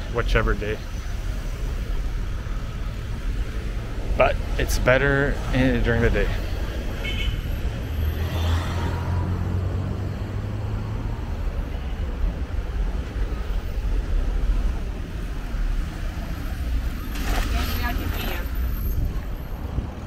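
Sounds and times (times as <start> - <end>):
cars passing with low rumble: 0.0 - 20.0.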